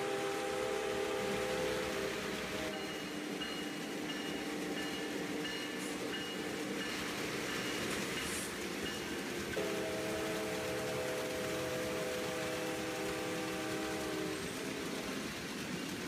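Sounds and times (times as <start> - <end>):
model train motors humming: 0.0 - 16.0
wheel and track noise: 0.0 - 16.0.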